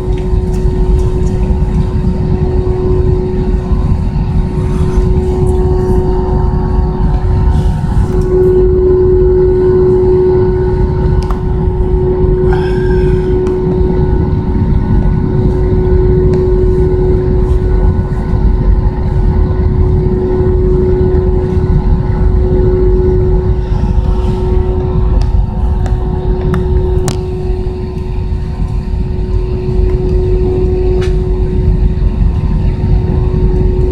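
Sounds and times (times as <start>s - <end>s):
jet engines from inside cabin: 0.0s - 33.9s.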